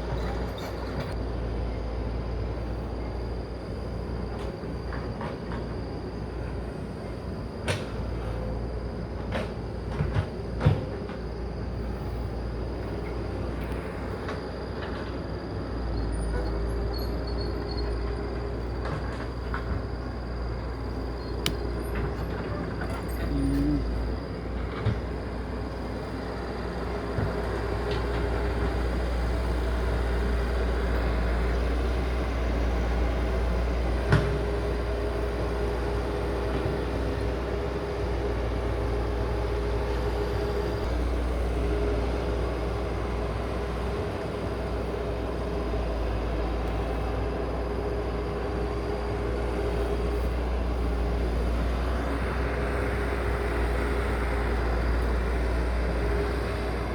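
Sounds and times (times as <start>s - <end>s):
heavy vehicle engine rumbling: 0.0s - 56.9s.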